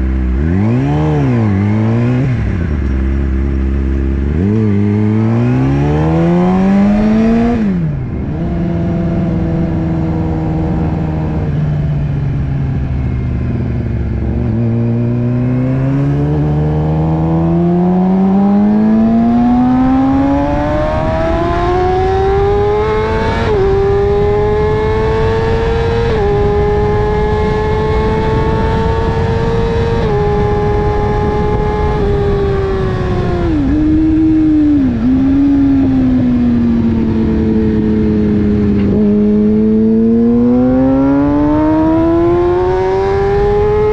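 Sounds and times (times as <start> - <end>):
sport bike engine revving: 0.2 - 11.6, 14.2 - 43.9.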